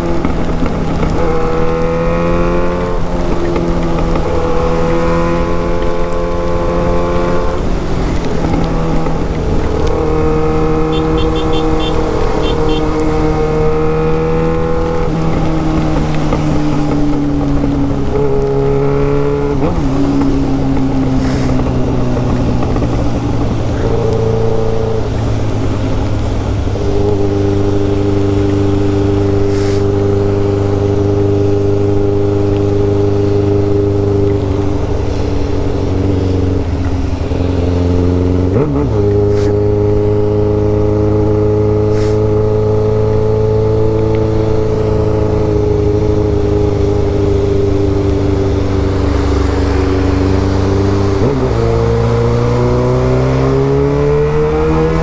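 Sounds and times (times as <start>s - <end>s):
motorcycle engine running: 0.0s - 54.5s.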